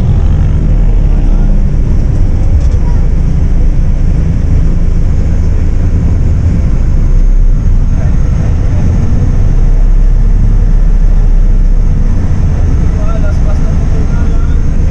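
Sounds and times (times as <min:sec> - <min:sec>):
coach engine and road rumble: 0:00.0 - 0:14.9.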